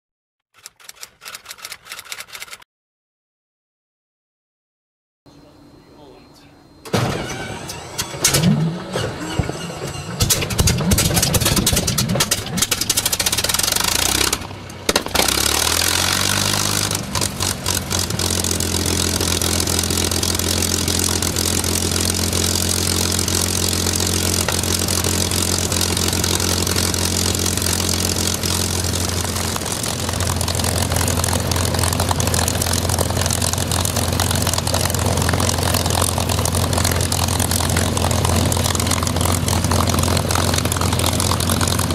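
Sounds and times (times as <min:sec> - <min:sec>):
piston aero engine starting up: 0:06.8 - 0:41.9.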